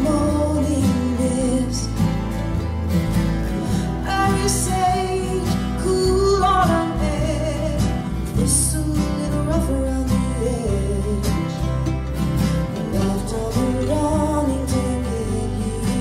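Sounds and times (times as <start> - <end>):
person singing: 0.0 - 2.3, 3.8 - 12.0, 12.7 - 16.0
acoustic guitars strumming: 0.0 - 16.0
bass: 0.0 - 16.0
mandolin: 0.0 - 16.0.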